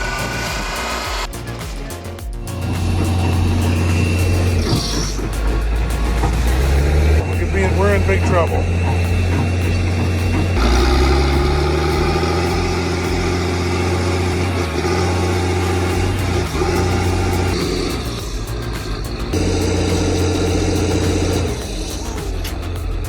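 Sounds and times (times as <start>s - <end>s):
large vehicle engine running: 2.6s - 23.0s.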